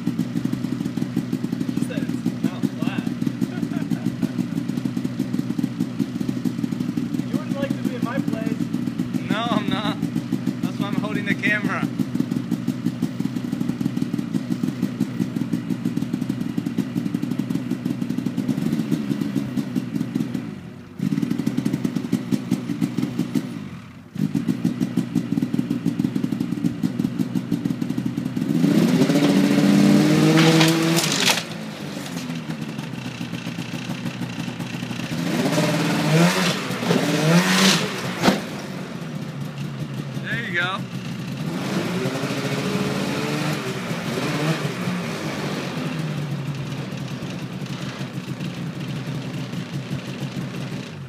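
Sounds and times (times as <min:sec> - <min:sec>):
snowmobile engine idling and revving: 0:00.0 - 0:51.0.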